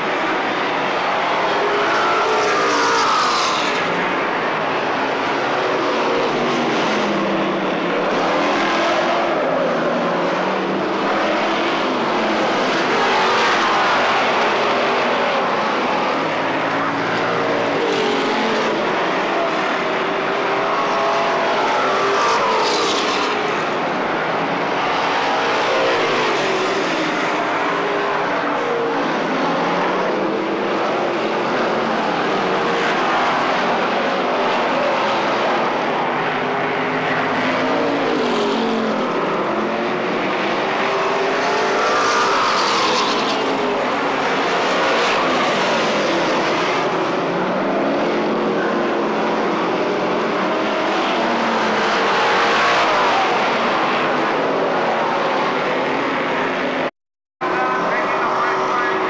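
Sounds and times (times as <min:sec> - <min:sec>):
race car engines at full throttle: 0:00.0 - 0:59.0.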